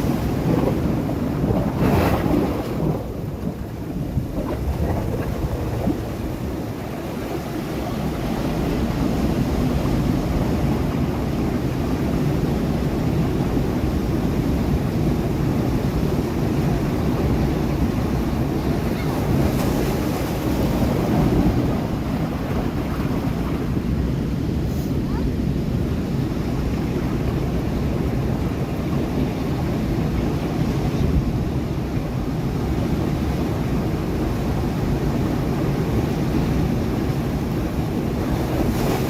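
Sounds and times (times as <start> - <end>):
waves breaking over rocks: 0.0 - 24.2, 25.4 - 39.0.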